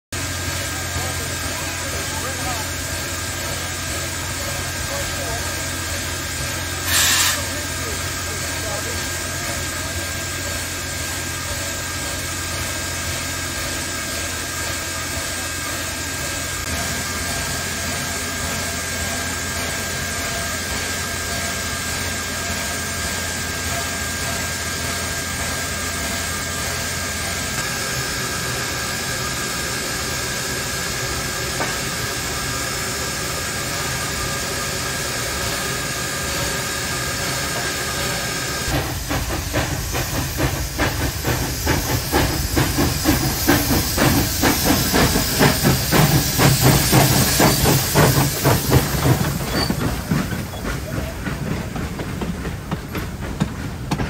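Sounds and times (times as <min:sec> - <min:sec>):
steam hissing: 0:00.2 - 0:54.0
steam locomotive chuffs: 0:00.2 - 0:54.0.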